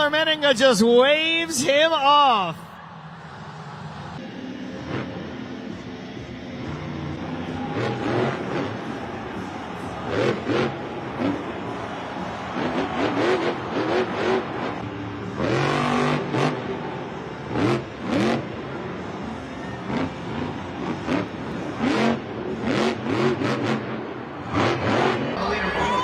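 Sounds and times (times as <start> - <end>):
truck engine revving: 3.0 - 26.0.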